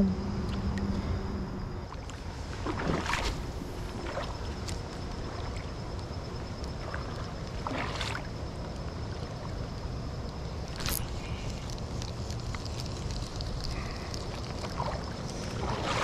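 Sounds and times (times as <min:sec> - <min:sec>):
creek water: 0:00.2 - 0:16.0.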